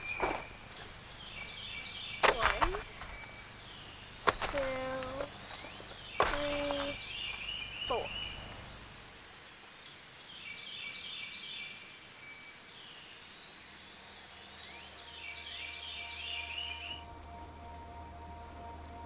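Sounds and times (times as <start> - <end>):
low steady musical drone: 0.0 - 9.9, 12.2 - 19.0
bird chirping: 0.0 - 19.0.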